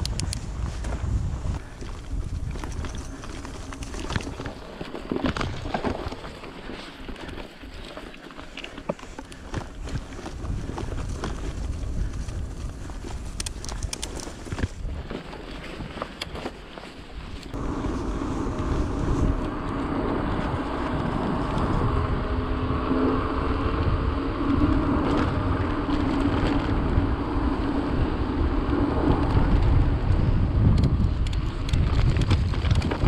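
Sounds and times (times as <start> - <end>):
bike knocking and rattling: 0.0 - 22.0, 23.4 - 33.0
bike tyres humming on asphalt: 0.0 - 33.0
wind buffeting microphone: 0.0 - 33.0.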